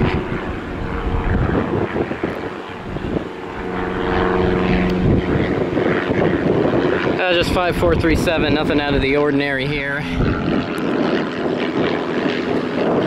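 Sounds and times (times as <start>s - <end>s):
propeller airplane engine drone: 0.0s - 13.0s.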